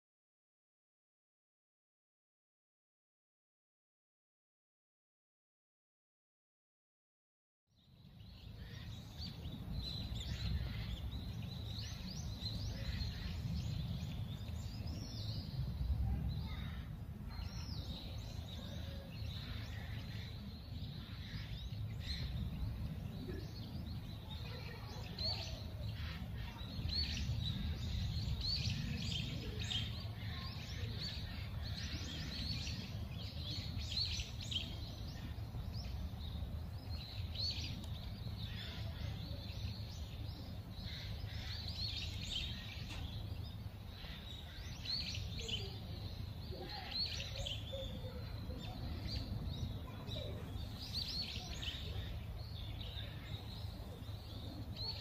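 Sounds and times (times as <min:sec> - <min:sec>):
small birds chirping: 0:07.7 - 0:55.0
steady low rumble: 0:08.5 - 0:54.8.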